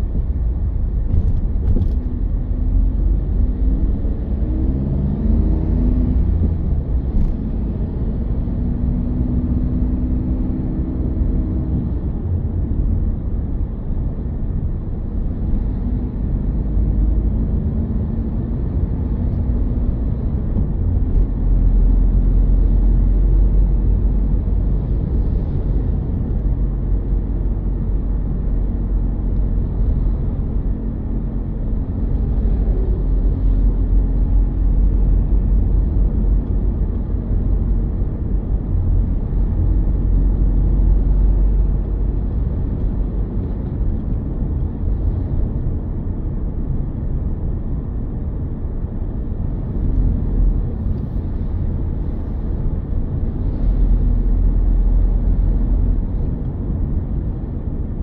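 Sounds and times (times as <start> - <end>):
car road rumble: 0.0 - 58.0
faint engine hum: 0.0 - 58.0.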